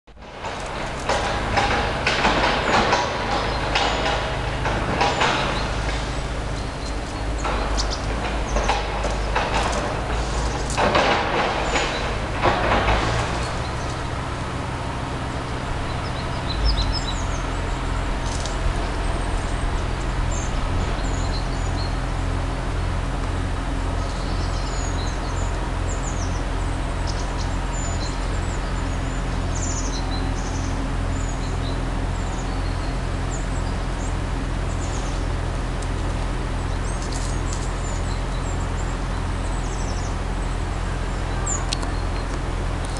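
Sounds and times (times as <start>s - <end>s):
pulsing low rumble: 0.1s - 42.9s
small birds chirping: 0.4s - 42.9s.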